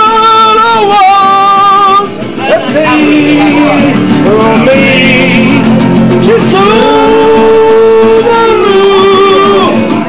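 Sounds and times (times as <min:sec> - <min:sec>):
men singing along: 0:00.0 - 0:09.8
acoustic guitar playing: 0:00.0 - 0:10.0.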